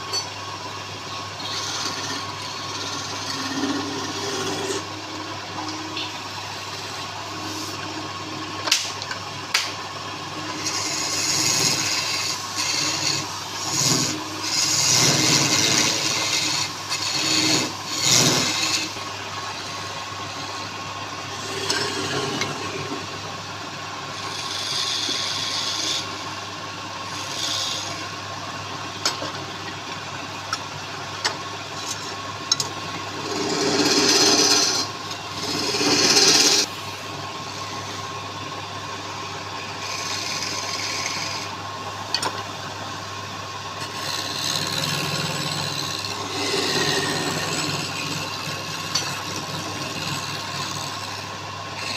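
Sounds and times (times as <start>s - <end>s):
wood lathe humming: 0.0s - 51.9s
tool scraping spinning wood: 1.1s - 8.1s, 9.5s - 23.3s, 24.1s - 30.3s, 31.4s - 38.7s, 39.6s - 42.7s, 43.6s - 51.9s.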